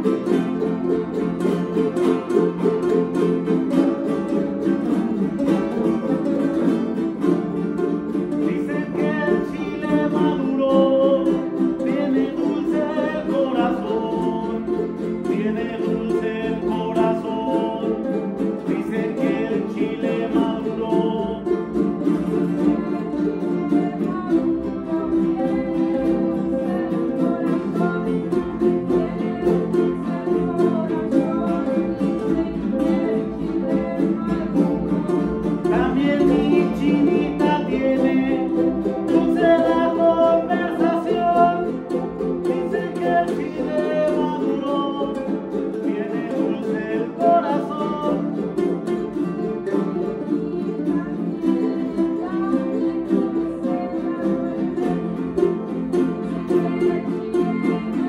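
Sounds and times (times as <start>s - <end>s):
jaranas strummed: 0.0s - 58.0s.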